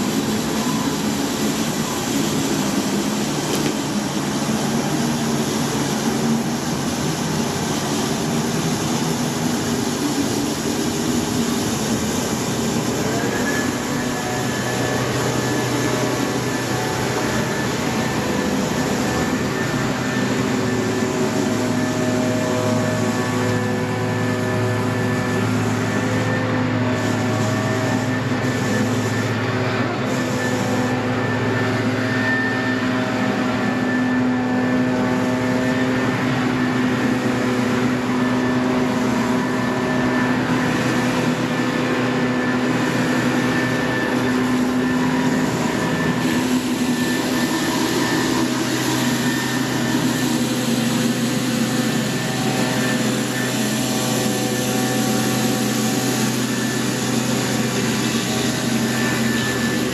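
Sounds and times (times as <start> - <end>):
water spray hissing on concrete: 0.0 - 32.2, 40.3 - 59.9
pressure washer engine running: 0.0 - 59.9.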